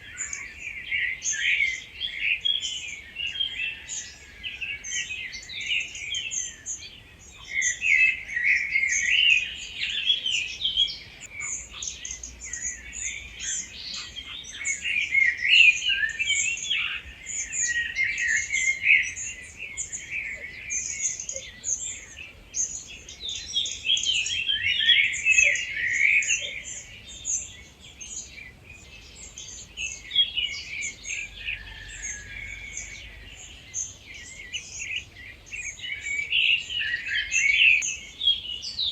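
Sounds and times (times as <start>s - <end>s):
birds singing dawn chorus: 0.0s - 38.9s.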